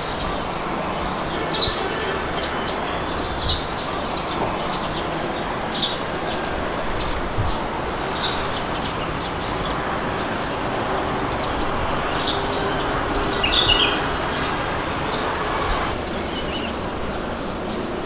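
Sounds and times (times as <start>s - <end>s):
small birds chirping: 0.0s - 18.0s
wind blowing: 0.0s - 18.0s.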